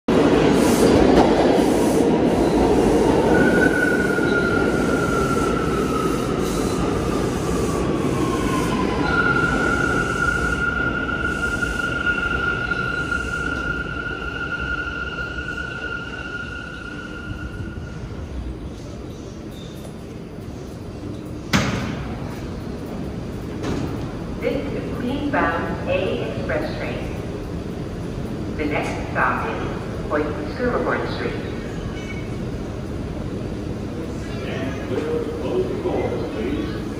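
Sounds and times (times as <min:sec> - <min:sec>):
subway train wheels rumbling: 0:00.1 - 0:36.9.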